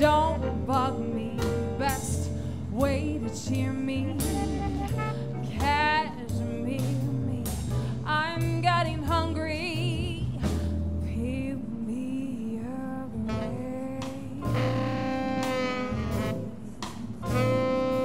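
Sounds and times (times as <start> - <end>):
bass line and drums: 0.0 - 11.4, 13.3 - 18.0.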